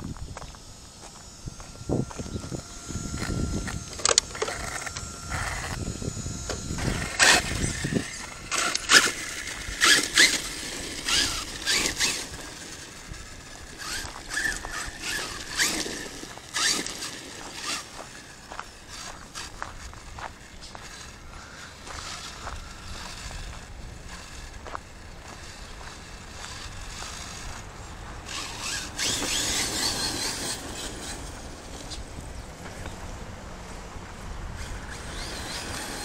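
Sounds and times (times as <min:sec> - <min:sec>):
electric motor whine: 0:00.0 - 0:36.0
toy truck low rumble: 0:00.0 - 0:36.0.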